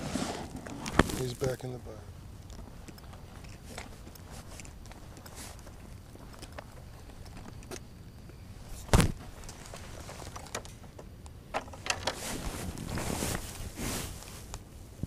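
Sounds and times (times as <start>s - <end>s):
fishing tackle clicks and rustling: 2.4s - 14.7s.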